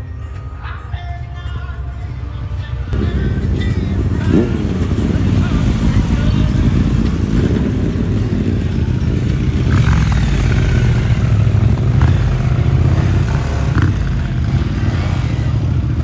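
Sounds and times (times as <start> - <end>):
motorcycle engine running: 2.9 - 16.0.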